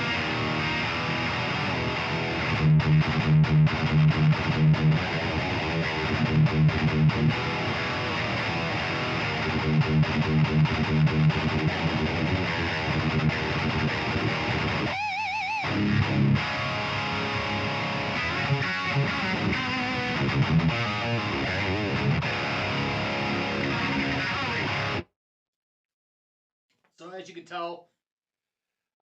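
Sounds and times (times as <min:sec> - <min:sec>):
distorted electric guitar riffs: 0:00.0 - 0:25.1.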